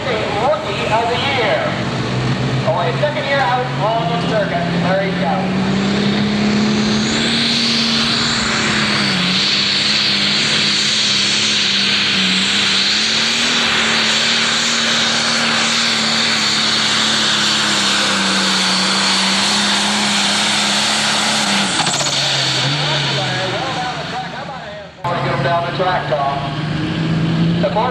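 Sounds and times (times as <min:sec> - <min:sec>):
diesel engine at full throttle: 0:00.0 - 0:27.9.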